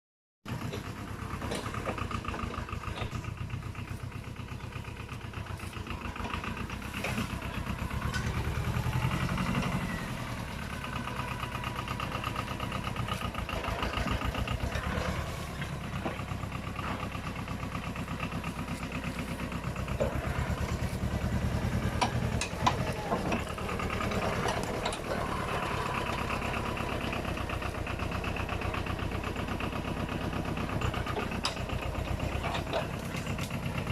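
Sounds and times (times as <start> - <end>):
tractor diesel engine chugging: 0.5 - 33.9.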